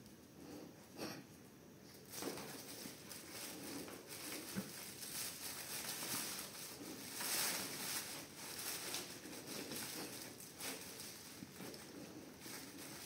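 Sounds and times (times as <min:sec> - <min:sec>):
fabric rustling and crinkling: 0:01.9 - 0:13.0.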